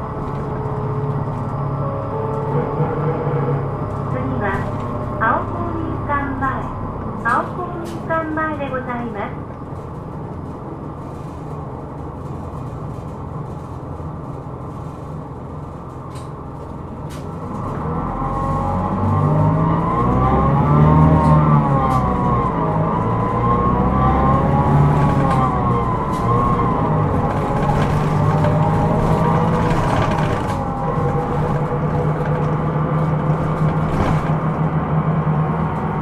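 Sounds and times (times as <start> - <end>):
bus engine running: 0.0 - 36.0.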